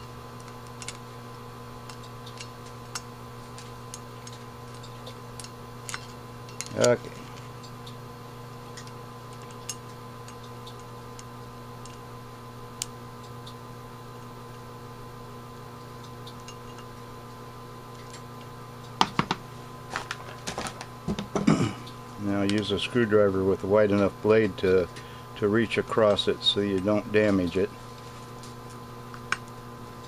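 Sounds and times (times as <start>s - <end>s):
electrical hum: 0.0s - 30.0s.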